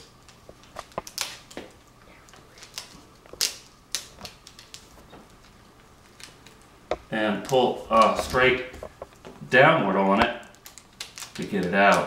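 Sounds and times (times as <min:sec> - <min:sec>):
tape peeling with small clicks: 0:00.0 - 0:09.4, 0:10.2 - 0:12.0.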